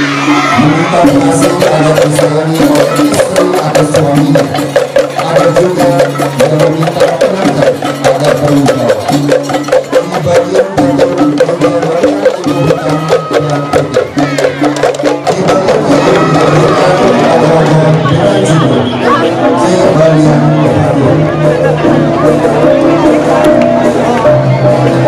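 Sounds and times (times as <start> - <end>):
gamelan percussion music: 0.0 - 25.0.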